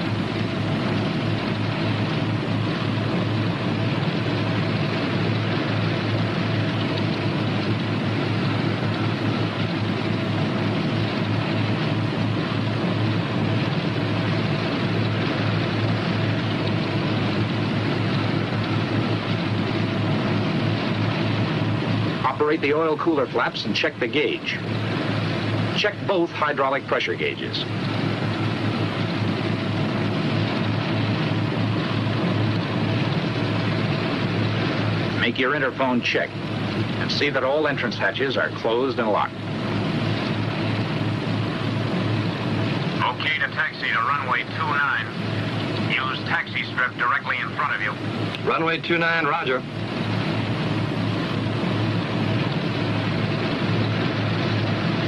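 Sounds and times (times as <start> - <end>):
radial aircraft engines droning: 0.0 - 55.0.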